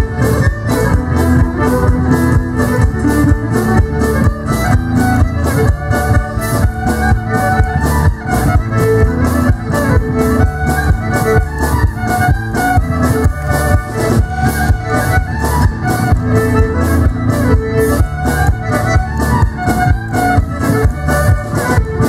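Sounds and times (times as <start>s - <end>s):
fiddle playing a lively reel: 0.0s - 22.0s
steady tapping beat: 0.0s - 22.0s.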